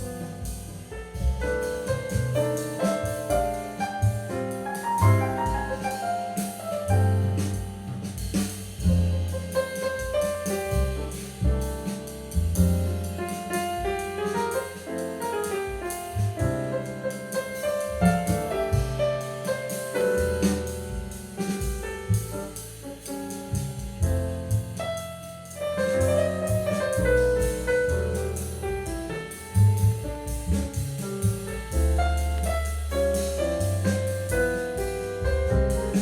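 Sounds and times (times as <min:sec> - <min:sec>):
piano jazz with bass and drums: 0:00.0 - 0:36.0.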